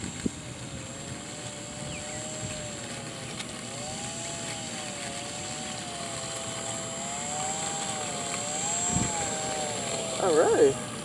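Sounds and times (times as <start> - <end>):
model plane electric motor whining: 0.0 - 11.0.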